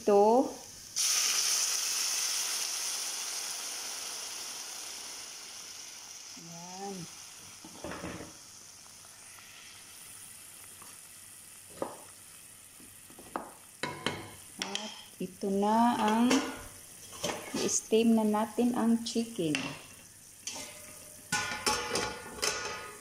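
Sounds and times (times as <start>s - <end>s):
water sizzling in hot oil: 0.0s - 23.0s.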